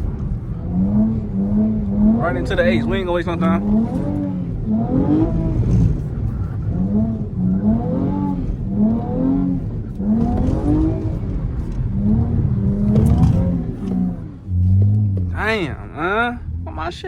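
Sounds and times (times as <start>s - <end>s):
car engine revving: 0.0s - 17.0s
tires spinning on wet pavement: 0.0s - 17.0s.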